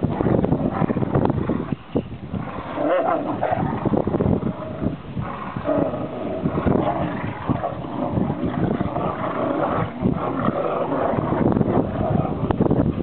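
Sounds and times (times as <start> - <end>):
dogs play-growling: 0.0 - 13.0.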